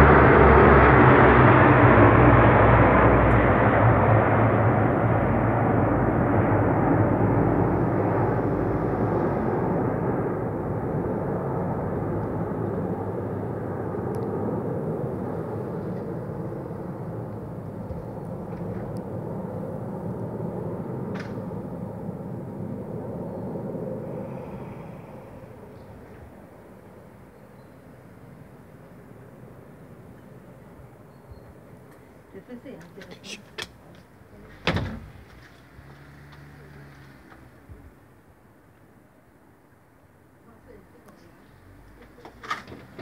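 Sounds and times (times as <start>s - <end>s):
turboprop aircraft droning: 0.0s - 43.0s.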